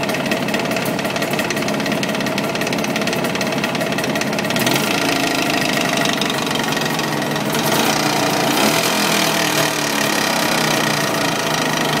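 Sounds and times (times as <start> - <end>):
two-stroke engine knocking: 0.0 - 12.0.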